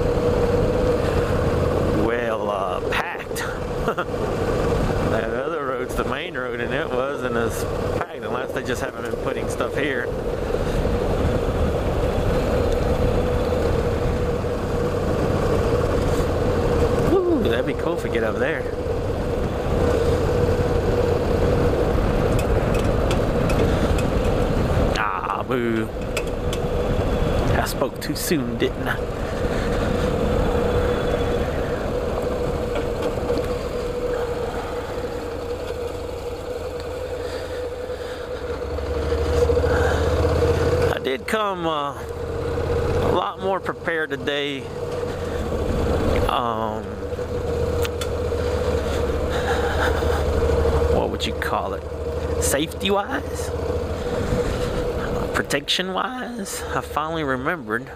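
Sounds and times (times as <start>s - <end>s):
motorcycle engine running: 0.0s - 57.9s
low rumble: 8.5s - 55.6s.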